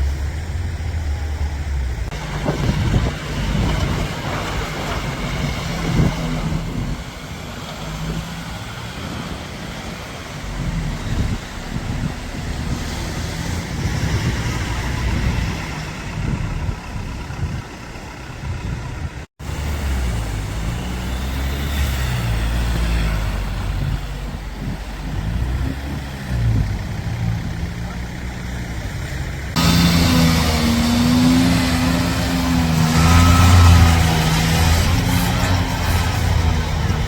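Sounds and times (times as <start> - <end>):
off-road vehicle engines: 0.0 - 37.0.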